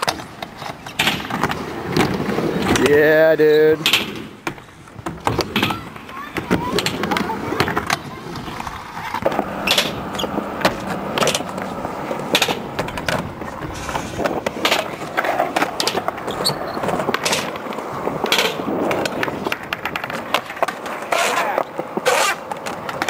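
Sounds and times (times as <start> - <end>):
skateboard clacks popping and landing: 0.0 - 3.0, 3.8 - 23.0
skateboard wheels rolling on concrete: 0.0 - 23.0.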